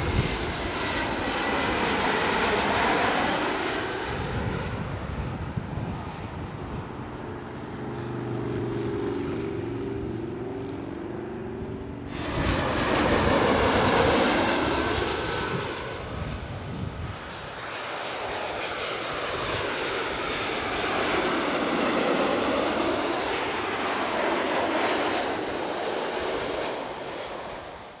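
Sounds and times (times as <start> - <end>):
jet airliner passing overhead: 0.0 - 28.0
jet engine hum: 0.0 - 28.0.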